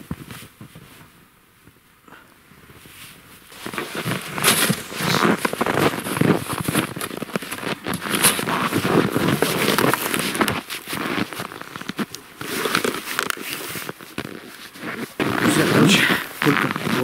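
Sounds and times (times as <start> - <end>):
stiff clothing rustling: 2.6 - 17.0
footsteps in snow: 2.7 - 17.0.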